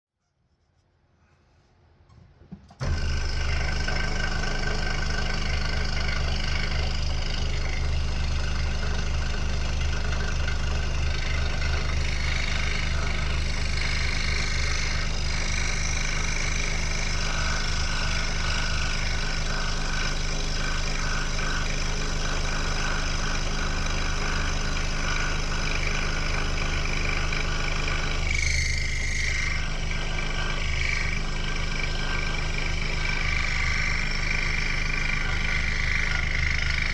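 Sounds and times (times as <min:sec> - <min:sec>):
scroll saw running: 0:02.8 - 0:36.9.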